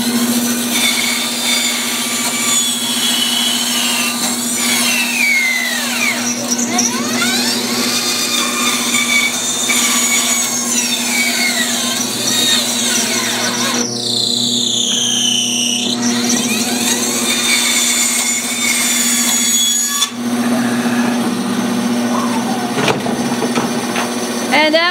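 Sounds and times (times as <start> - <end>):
bandsaw motor humming: 0.0 - 24.9
saw blade whining: 0.0 - 24.9
high blade squeal: 0.7 - 21.2.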